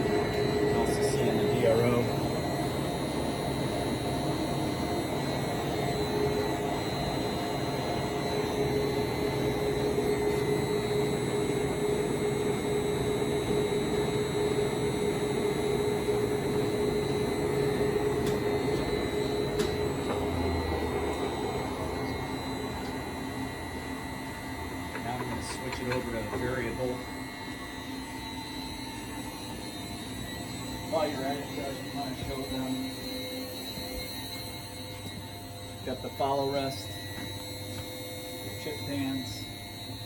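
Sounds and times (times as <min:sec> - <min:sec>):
carriage feed whine: 0:00.0 - 0:40.0
lathe running: 0:00.0 - 0:40.0.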